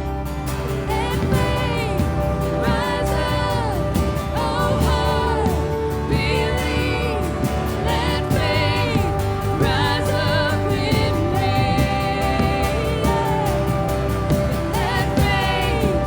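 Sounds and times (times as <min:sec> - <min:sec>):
person singing: 0:00.0 - 0:16.0
worship band playing: 0:00.0 - 0:16.0.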